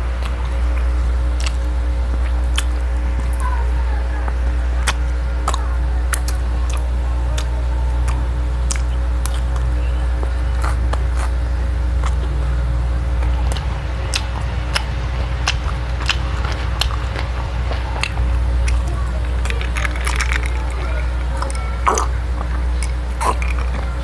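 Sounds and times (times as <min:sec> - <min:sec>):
steady low hum: 0:00.0 - 0:24.0
wet chewing and lip smacks: 0:00.2 - 0:03.4, 0:04.2 - 0:24.0.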